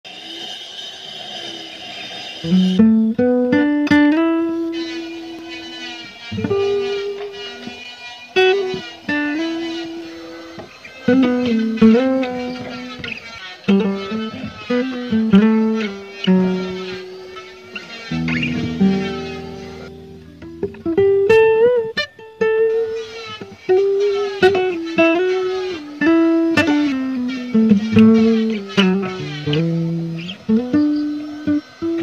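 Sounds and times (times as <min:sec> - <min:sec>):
plucked electric guitar melody: 0:02.4 - 0:32.0.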